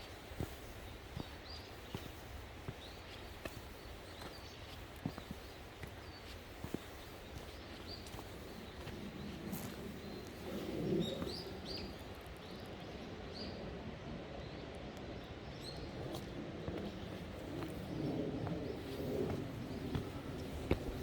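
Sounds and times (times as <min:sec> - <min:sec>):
small birds chirping: 0:00.0 - 0:13.7, 0:15.2 - 0:21.0.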